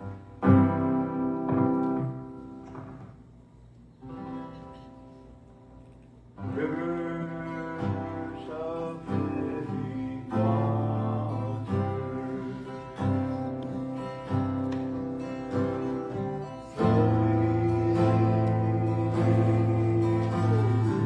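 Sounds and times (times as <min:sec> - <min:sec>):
sustained guitar chords: 0:00.0 - 0:03.3, 0:06.4 - 0:21.0.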